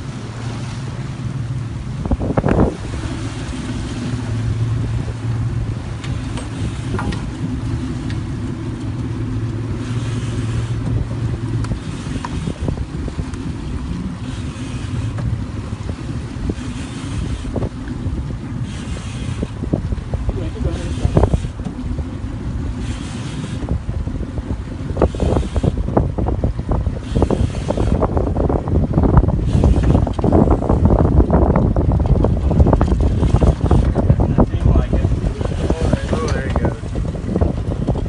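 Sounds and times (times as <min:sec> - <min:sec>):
outboard motor humming: 0:00.0 - 0:38.0
water and wind rushing: 0:00.0 - 0:38.0.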